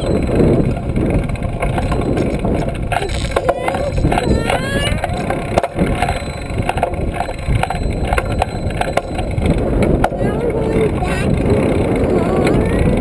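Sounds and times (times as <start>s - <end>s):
bike rattles and clicks: 0.0s - 13.0s
wind buffeting microphone: 0.0s - 13.0s.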